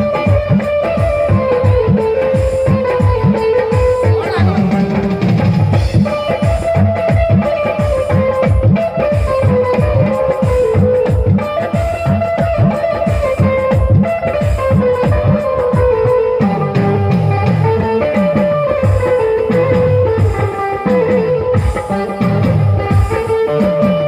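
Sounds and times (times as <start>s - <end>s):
plucked guitar-like melody: 0.0s - 24.0s.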